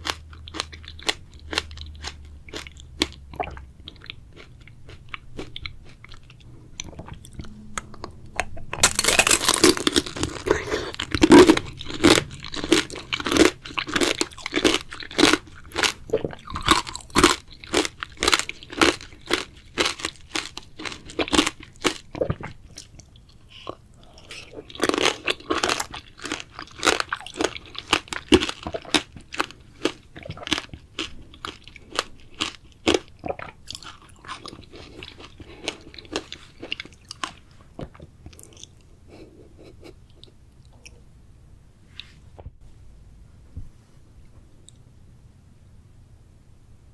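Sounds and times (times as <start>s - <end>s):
crunchy wet chewing: 0.0s - 40.8s.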